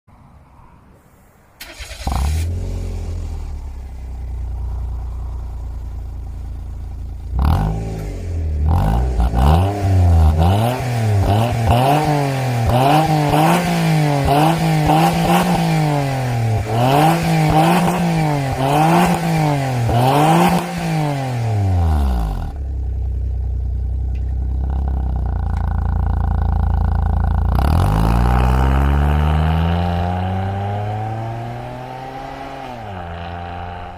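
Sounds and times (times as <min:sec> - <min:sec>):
car engine idling and revving: 0:01.1 - 0:33.9
car accelerating away: 0:01.6 - 0:22.7, 0:24.4 - 0:33.9.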